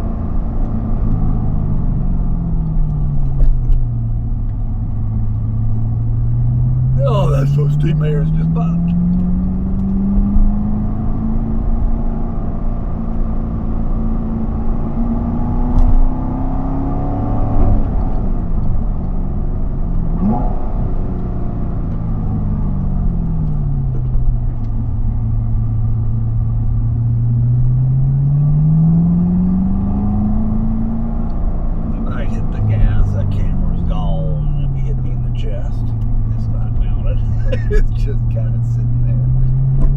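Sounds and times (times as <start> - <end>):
car engine revving: 0.0 - 39.9
road noise: 0.0 - 39.9.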